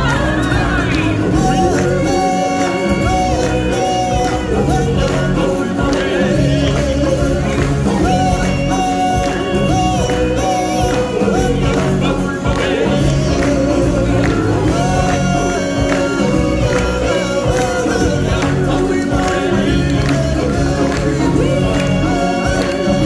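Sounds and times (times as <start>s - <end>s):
chorus of singers: 0.0s - 23.0s
steady percussion beat: 0.0s - 23.0s.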